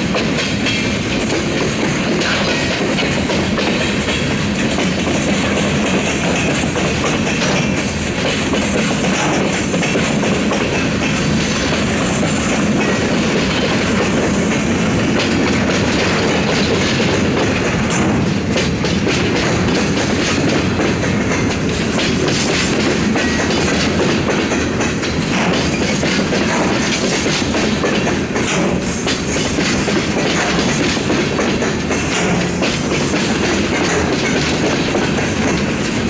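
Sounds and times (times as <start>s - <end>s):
train wheels clacking on rails: 0.0s - 36.0s.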